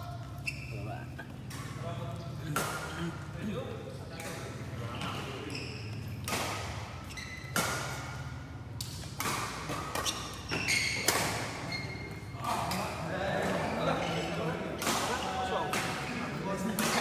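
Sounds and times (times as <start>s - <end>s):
shoes squeaking on court: 0.0s - 3.3s, 4.2s - 17.0s
rackets hitting shuttlecock: 1.3s - 3.2s, 4.2s - 13.6s, 14.6s - 17.0s.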